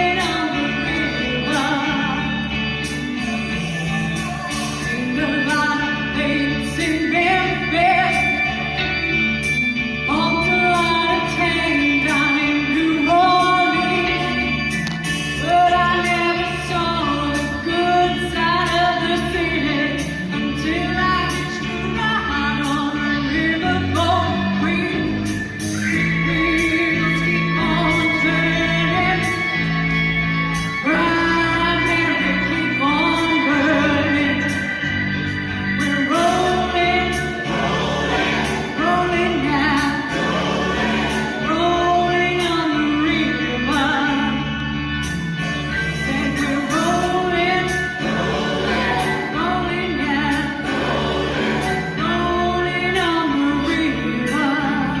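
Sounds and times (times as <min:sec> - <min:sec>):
choir singing pop song: 0:00.0 - 0:29.7, 0:35.7 - 0:55.0
band accompaniment: 0:00.0 - 0:55.0.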